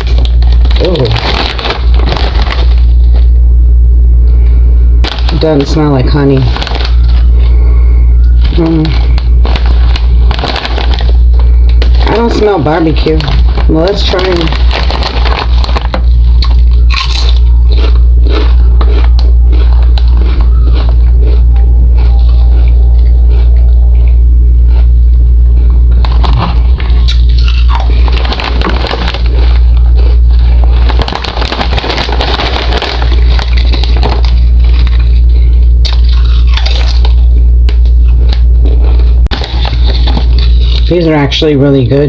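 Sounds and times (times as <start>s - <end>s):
person chewing crisp chips: 0.0s - 3.4s, 4.2s - 41.3s
loud steady low hum: 0.0s - 42.0s.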